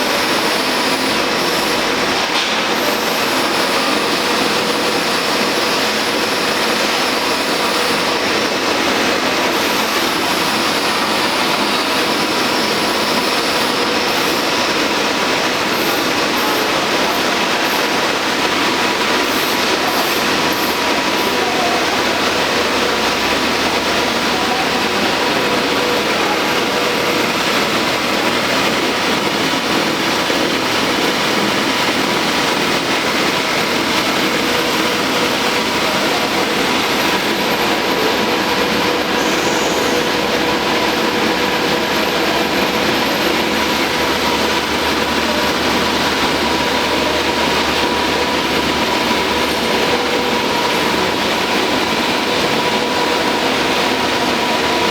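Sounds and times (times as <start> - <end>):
machine whirring with faint whine: 0.0 - 54.9.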